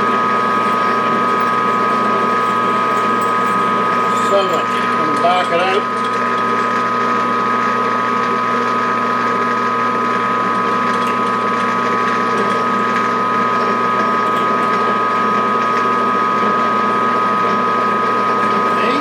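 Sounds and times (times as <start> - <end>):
drill cutting metal: 0.0 - 19.0
metal lathe gear whine: 0.0 - 19.0.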